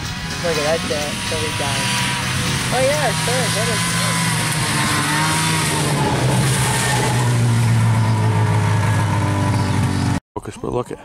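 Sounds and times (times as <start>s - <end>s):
snowmobile engine passing by: 0.0s - 10.2s.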